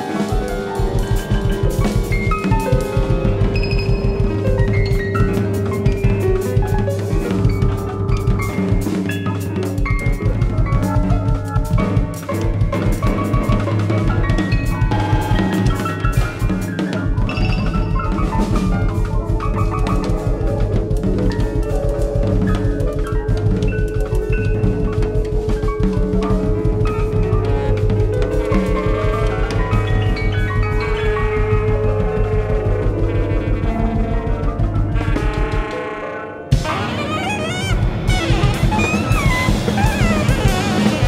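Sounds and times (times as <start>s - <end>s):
busy drums and cymbals: 0.0s - 41.0s.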